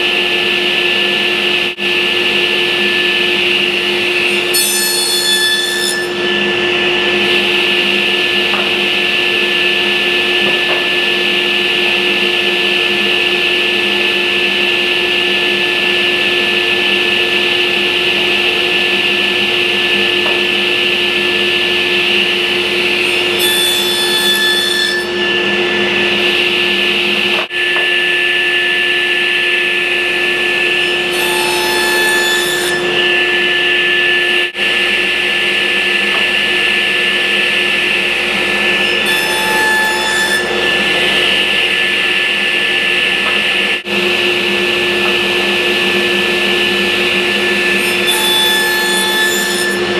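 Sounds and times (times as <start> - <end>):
table saw cutting wood: 0.0 - 49.9.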